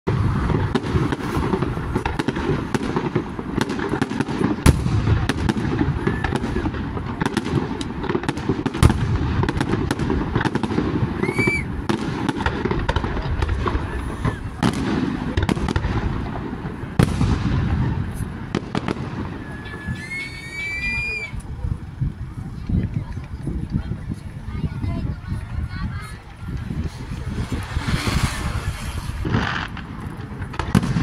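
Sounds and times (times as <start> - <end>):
heavy firework bangs: 0.1 - 21.3, 25.4 - 31.0
firework shell bursts and crackles: 0.1 - 31.0.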